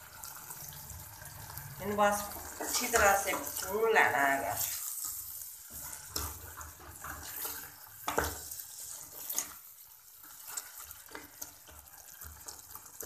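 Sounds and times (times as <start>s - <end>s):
curry sizzling in a steel pan: 0.0s - 13.0s
steel spoon scraping a pan: 1.8s - 12.6s.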